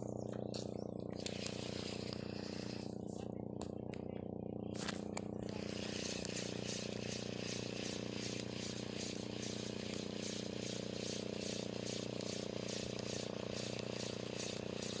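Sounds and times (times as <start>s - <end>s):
low hum: 0.0s - 15.0s
fishing reel whirring rattle: 0.3s - 3.1s, 5.1s - 15.0s.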